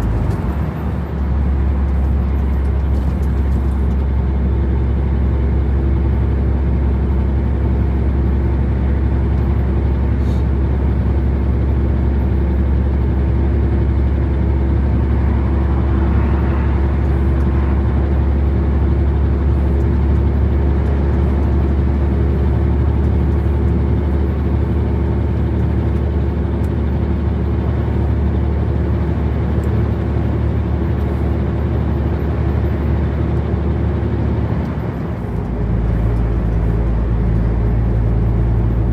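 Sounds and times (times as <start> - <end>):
road noise: 0.0 - 38.9
truck engine rumble: 0.0 - 38.9.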